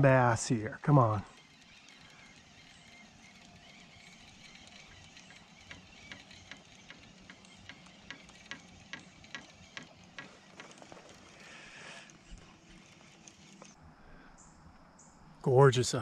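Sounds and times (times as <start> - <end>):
fishing reel ticking: 0.0 - 13.8.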